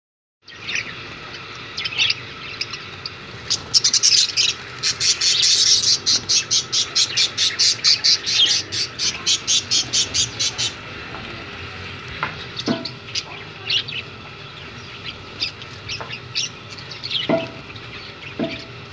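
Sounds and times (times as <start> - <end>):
budgerigars chirping: 0.5 - 10.8, 12.1 - 18.8.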